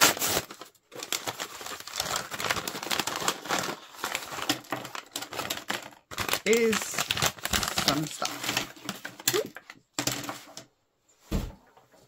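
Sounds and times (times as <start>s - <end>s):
paper bag crinkling: 0.0s - 10.6s.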